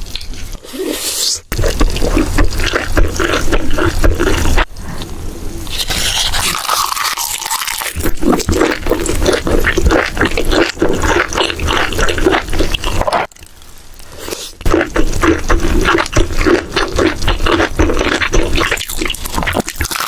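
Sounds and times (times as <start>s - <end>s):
wet chewing and smacking: 1.5s - 4.7s, 5.8s - 13.5s, 14.2s - 20.0s.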